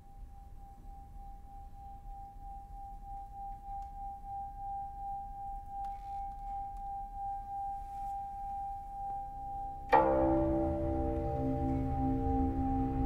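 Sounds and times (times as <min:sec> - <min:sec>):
held ringing tone: 0:00.0 - 0:13.0.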